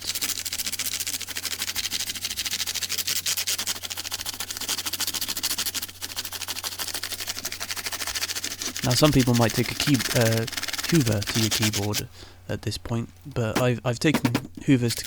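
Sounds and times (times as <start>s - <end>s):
brush scrubbing keyboard: 0.0s - 12.1s, 13.6s - 15.0s
low electrical hum: 0.0s - 15.0s.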